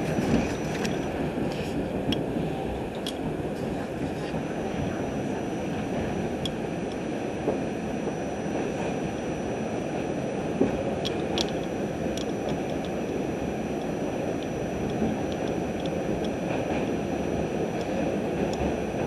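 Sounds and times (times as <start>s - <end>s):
faint high whine: 0.0s - 19.0s
subway wheels rumbling on rail: 0.0s - 19.0s.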